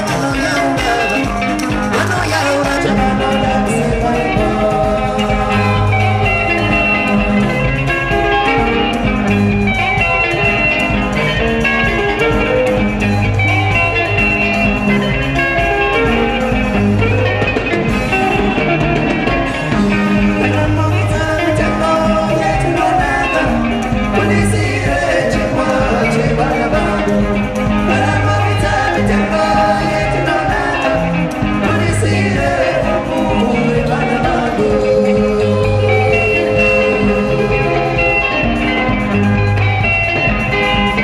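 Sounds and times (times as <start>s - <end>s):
drum kit: 0.0s - 41.0s
interlocking electric guitars: 0.0s - 41.0s
repeating bass guitar: 0.0s - 41.0s.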